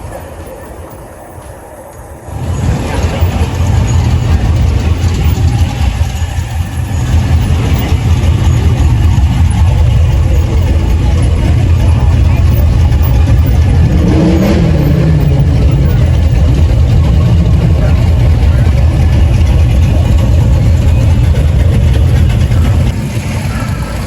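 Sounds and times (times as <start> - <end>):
car engine rumbling and revving: 2.3 - 24.0.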